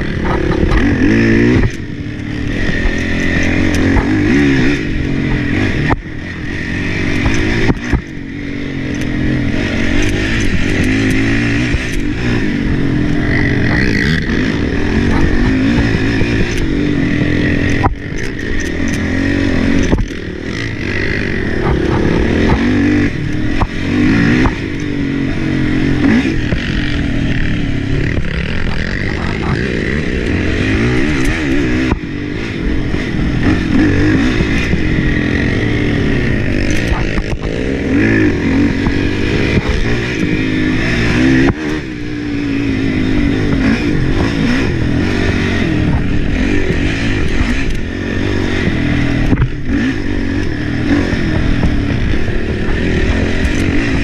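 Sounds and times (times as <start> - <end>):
atv clattering over bumps: 0.0 - 54.0
atv engine revving: 0.0 - 54.0.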